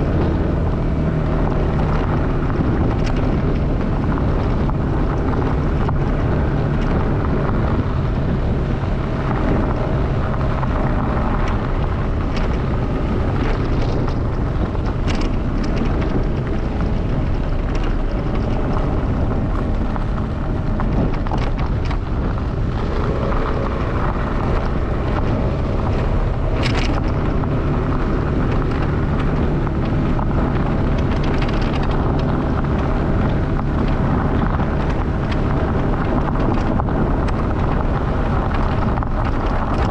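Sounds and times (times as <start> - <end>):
vehicle engine driving: 0.0 - 39.9
wind noise on microphone: 0.0 - 39.9
loose stones clicking: 1.4 - 39.9.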